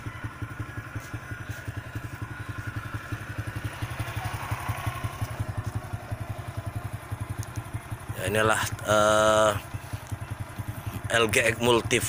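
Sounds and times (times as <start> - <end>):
engine idling with low chug: 0.0 - 12.0.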